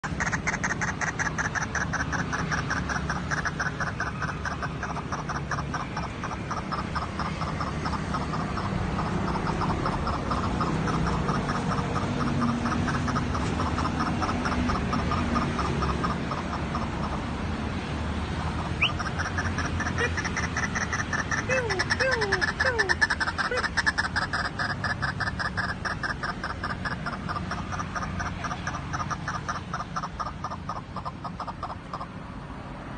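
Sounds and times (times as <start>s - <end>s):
bird croaking calls: 0.0s - 17.6s, 18.2s - 32.2s.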